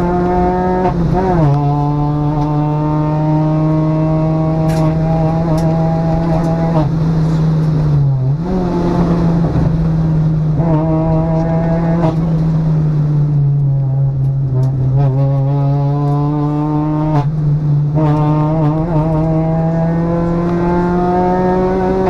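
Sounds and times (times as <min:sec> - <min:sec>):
car engine revving high: 0:00.0 - 0:22.0
road and tyre noise: 0:00.0 - 0:22.0.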